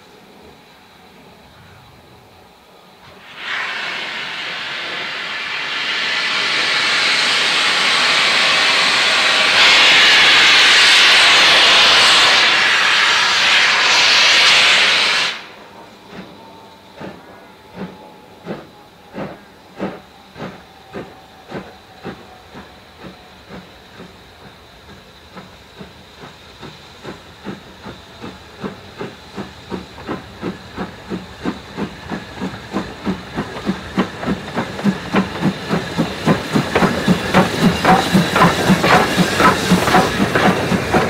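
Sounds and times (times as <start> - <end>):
loud hiss of steam: 0.0 - 41.0
steam locomotive exhaust beats: 0.0 - 41.0.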